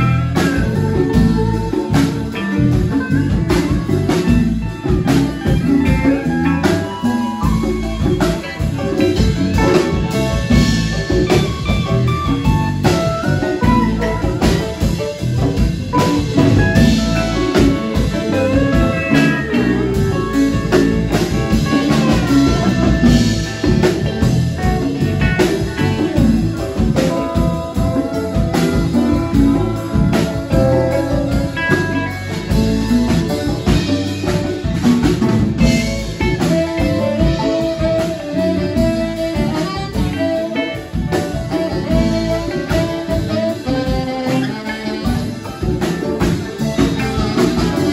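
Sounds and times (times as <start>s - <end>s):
bass guitar: 0.0s - 47.9s
drum kit: 0.0s - 47.9s
electric guitars: 0.0s - 47.9s.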